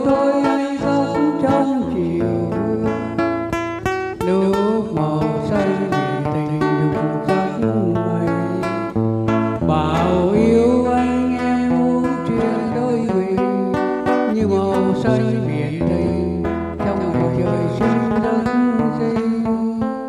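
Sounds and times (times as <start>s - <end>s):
acoustic guitar picking melody: 0.0s - 20.0s
man singing into a microphone: 0.0s - 20.0s.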